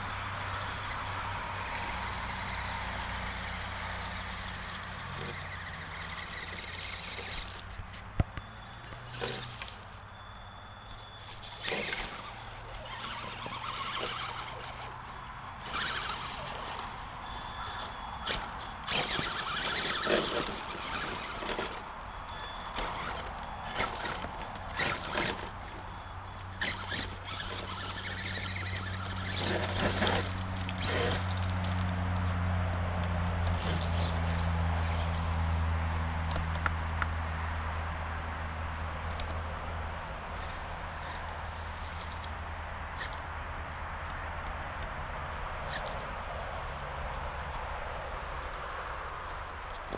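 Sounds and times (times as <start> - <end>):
low motor hum: 0.0 - 49.9
tires crunching on dirt and stones: 0.0 - 49.9.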